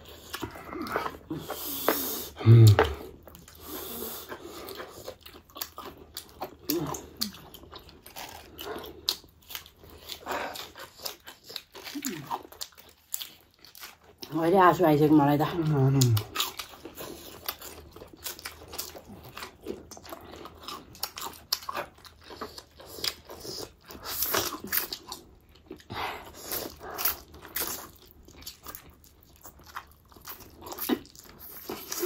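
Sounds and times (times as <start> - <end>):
crunching and chewing food: 0.0 - 32.0.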